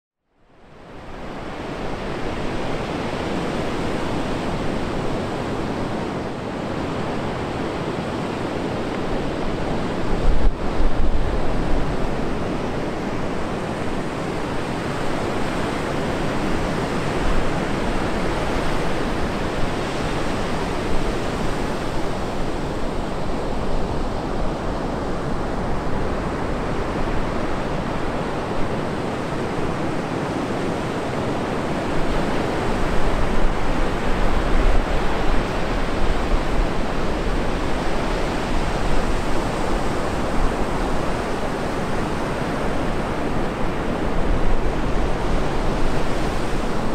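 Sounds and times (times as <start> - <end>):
surf washing up beach: 0.8 - 46.9.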